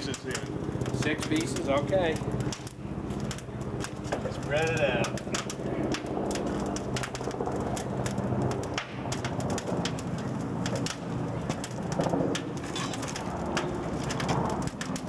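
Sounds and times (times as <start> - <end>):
steady low hum: 0.0 - 15.0
wood fire crackling and popping: 0.0 - 15.0.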